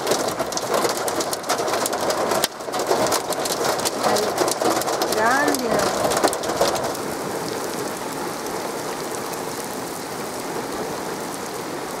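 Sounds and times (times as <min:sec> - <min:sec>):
close raindrop ticks: 0:00.0 - 0:12.0
rain on paved road: 0:00.0 - 0:12.0.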